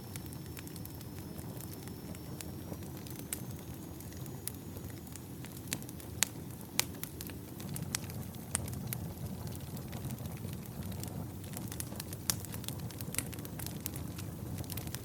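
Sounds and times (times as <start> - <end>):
campfire flame rushing: 0.0 - 15.0
firewood crackling and popping: 0.0 - 15.0.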